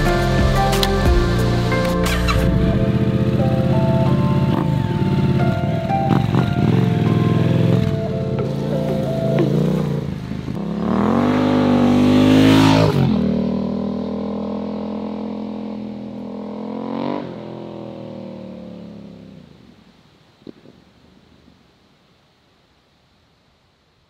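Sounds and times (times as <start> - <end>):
motorcycle engine accelerating: 0.0 - 19.7.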